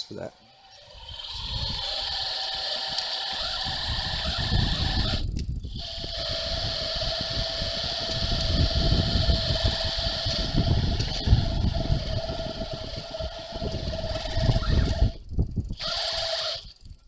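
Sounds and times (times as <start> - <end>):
wind and road noise rumble: 0.0 - 17.0
electric motor rollers whining: 0.3 - 17.0.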